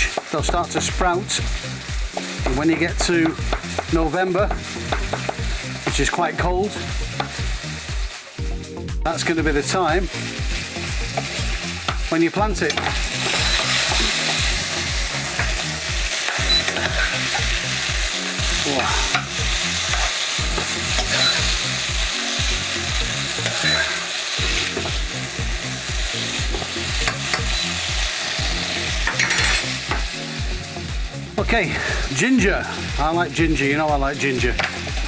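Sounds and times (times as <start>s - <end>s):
food sizzling in a pan: 0.0s - 35.0s.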